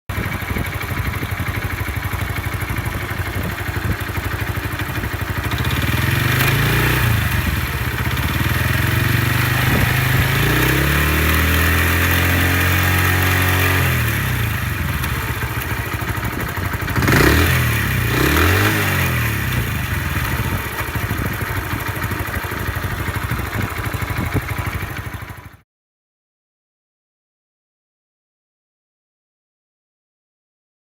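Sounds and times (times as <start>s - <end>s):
engine knocking: 0.1s - 25.6s
motorcycle engine idling and revving: 0.1s - 25.6s.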